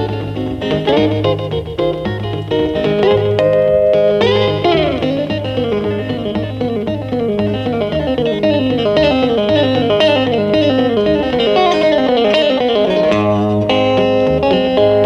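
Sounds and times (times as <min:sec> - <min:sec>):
guitar descending runs: 0:00.0 - 0:15.0
steady bass line: 0:00.0 - 0:15.0.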